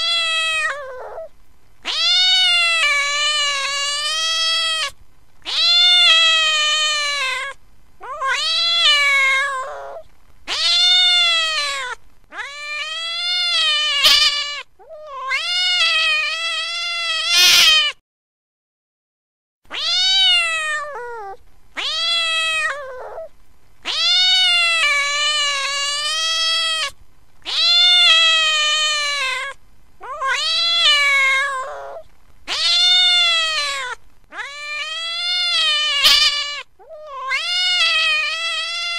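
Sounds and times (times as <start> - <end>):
cat meowing: 0.0 - 18.0, 19.7 - 38.9.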